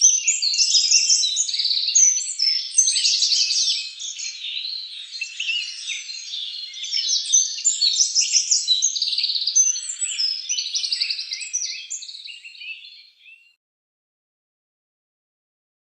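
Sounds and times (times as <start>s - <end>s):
birds chirping and trilling: 0.0s - 13.6s.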